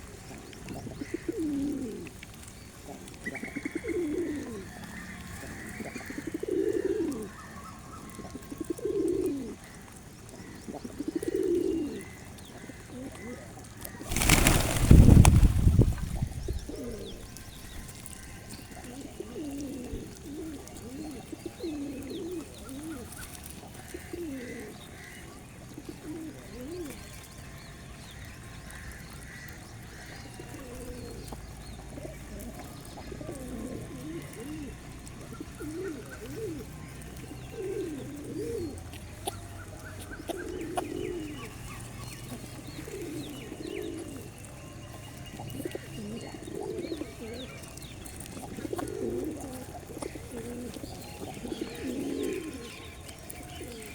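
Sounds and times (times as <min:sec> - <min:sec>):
pigeons cooing: 0:00.0 - 0:27.4, 0:28.7 - 0:53.9.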